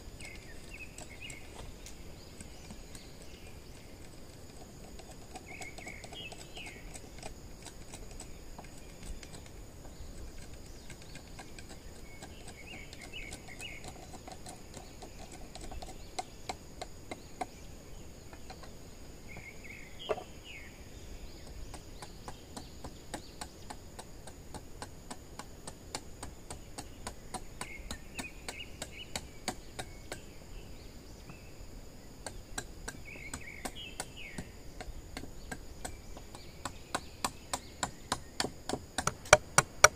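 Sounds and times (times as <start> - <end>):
bird chirping: 0.0 - 24.0, 26.2 - 39.9
high insect drone: 0.0 - 39.9
hand tool tapping bamboo: 0.2 - 17.6, 21.4 - 30.3, 32.2 - 39.9.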